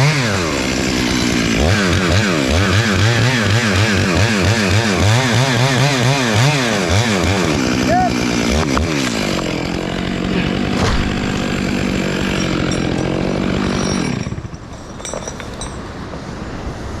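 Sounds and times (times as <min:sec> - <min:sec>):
chainsaw engine running: 0:00.0 - 0:14.6.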